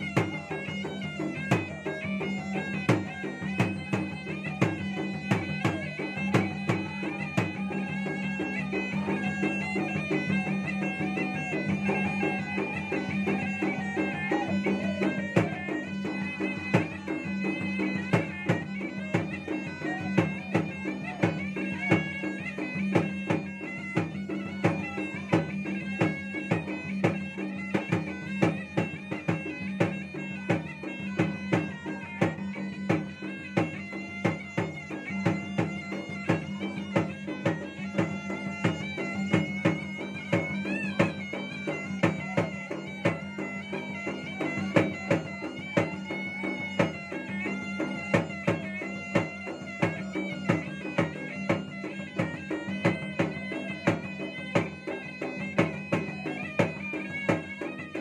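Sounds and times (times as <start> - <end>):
hand drums beating: 0.0 - 58.0
shawm playing wavering melody: 0.0 - 58.0.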